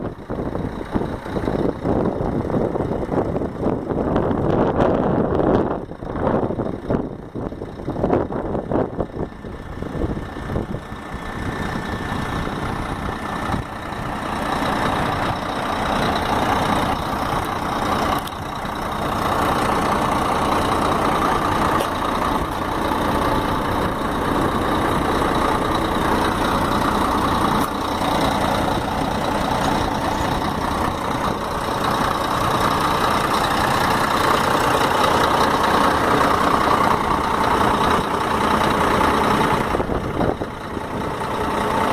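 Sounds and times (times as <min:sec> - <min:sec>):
truck diesel engine running: 0:00.0 - 0:41.9.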